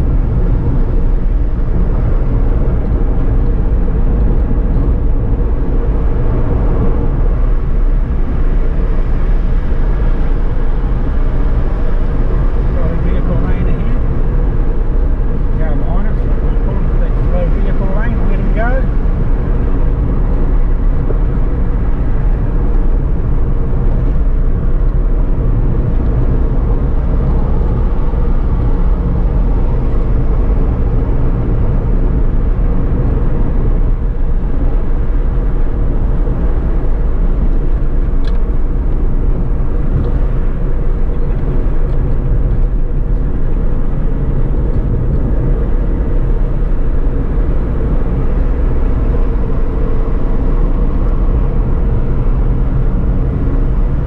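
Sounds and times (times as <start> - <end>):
car engine drone: 0.0 - 54.0
tyre road noise: 0.0 - 54.0.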